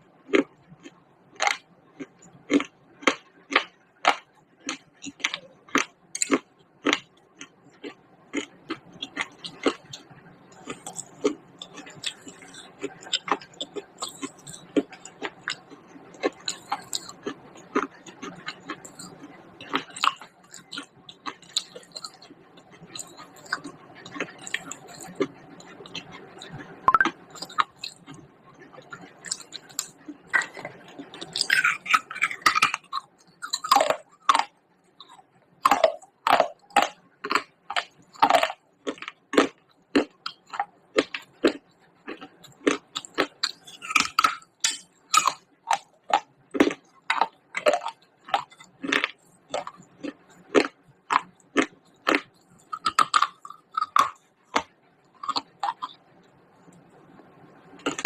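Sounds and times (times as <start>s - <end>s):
person chewing crunchy clay: 0.2s - 58.0s.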